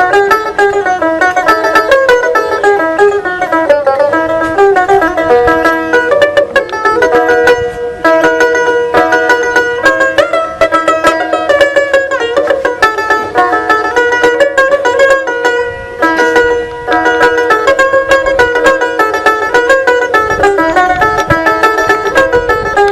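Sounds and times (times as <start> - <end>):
plucked lute notes: 0.0 - 22.9.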